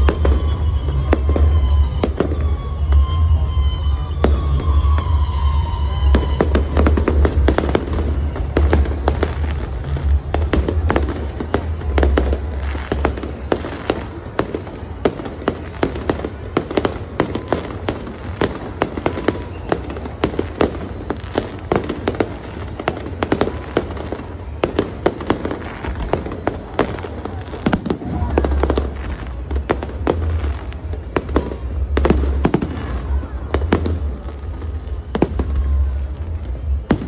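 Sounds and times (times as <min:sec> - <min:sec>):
fireworks bursting and crackling: 0:00.0 - 0:37.0.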